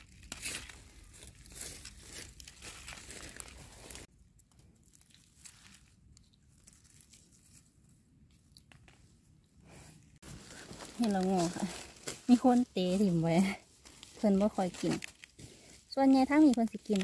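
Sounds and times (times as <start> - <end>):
hand digging in leaf litter: 0.0 - 4.1, 4.8 - 7.8, 10.2 - 17.0.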